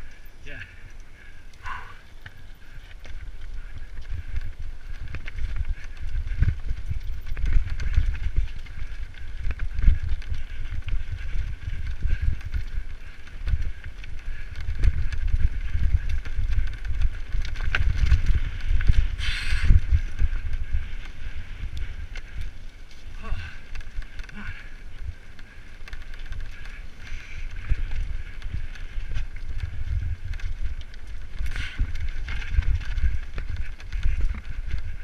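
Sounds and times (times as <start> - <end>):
bike knocking and rattling: 0.0 - 35.0
bike tyres crunching on stones: 0.0 - 35.0.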